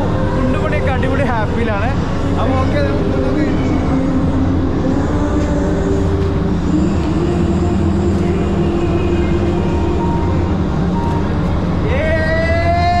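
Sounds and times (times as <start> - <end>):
cooling units droning hum: 0.0 - 13.0.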